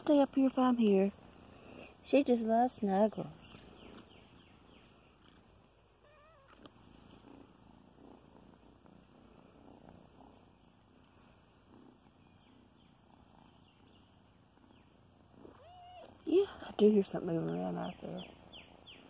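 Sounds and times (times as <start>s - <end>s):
kitten purring: 0.0s - 19.0s.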